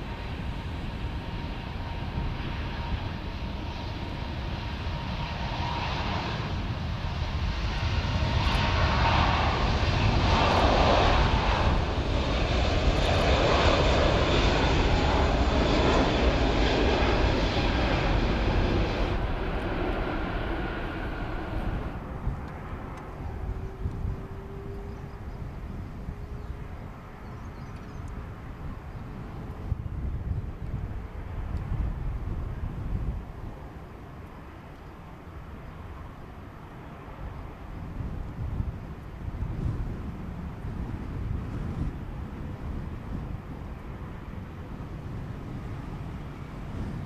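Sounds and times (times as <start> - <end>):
jet engines rumbling: 0.0 - 47.0.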